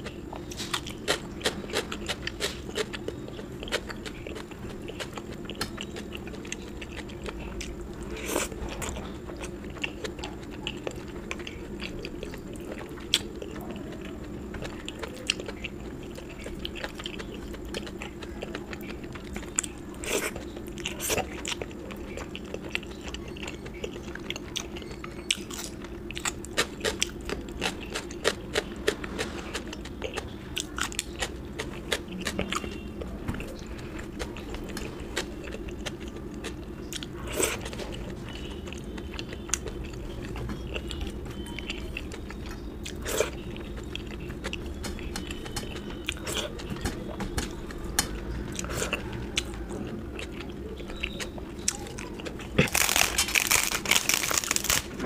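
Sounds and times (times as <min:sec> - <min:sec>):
person chewing and crunching food: 0:00.0 - 0:55.0
steady low hum: 0:00.0 - 0:55.0.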